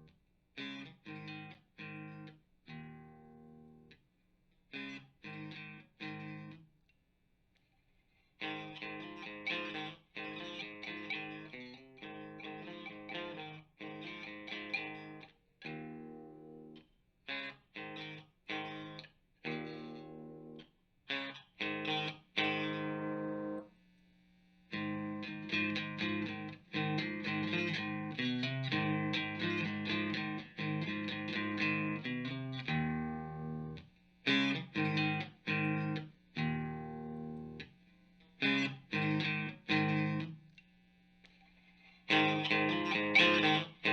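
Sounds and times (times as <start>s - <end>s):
distorted electric guitar: 0.0s - 3.8s, 4.8s - 6.6s, 8.4s - 23.7s, 24.7s - 37.7s, 38.4s - 40.5s, 41.3s - 43.9s.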